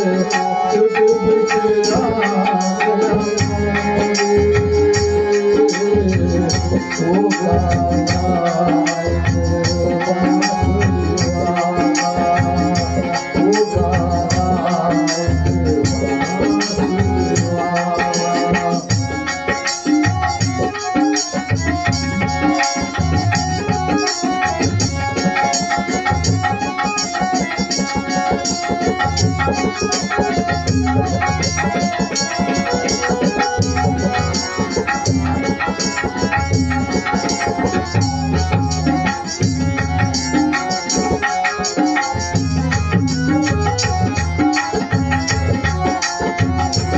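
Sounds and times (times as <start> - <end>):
hand drum rhythm: 0.0 - 46.9
rattling percussion: 0.0 - 46.9
sustained instrumental tones: 0.0 - 46.9.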